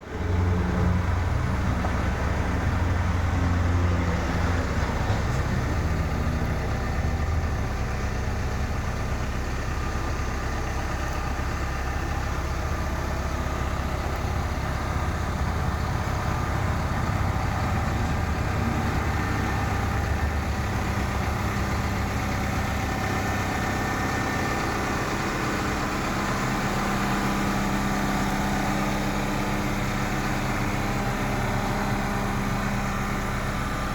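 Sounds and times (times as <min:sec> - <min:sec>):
excavator diesel engine idling: 0:00.0 - 0:33.9.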